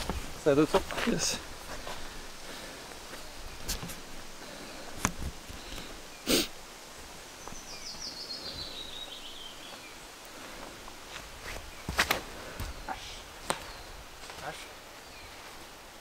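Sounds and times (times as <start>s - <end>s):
outdoor background noise: 0.0s - 16.0s
songbird singing: 0.0s - 16.0s.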